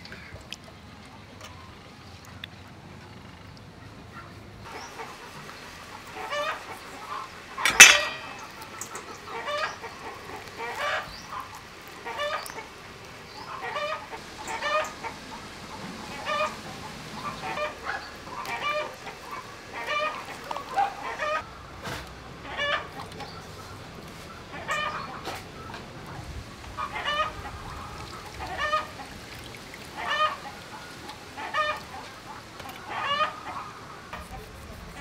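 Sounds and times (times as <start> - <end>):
chickens clucking: 4.2 - 35.0.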